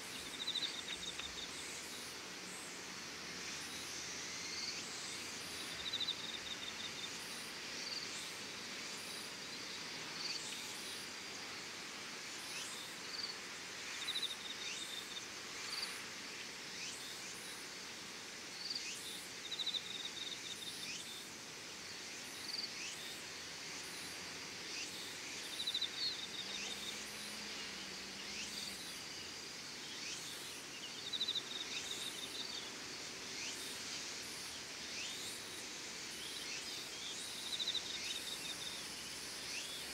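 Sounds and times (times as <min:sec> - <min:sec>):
insects chirping and trilling: 0:00.0 - 0:39.9
steady outdoor hiss: 0:00.0 - 0:39.9.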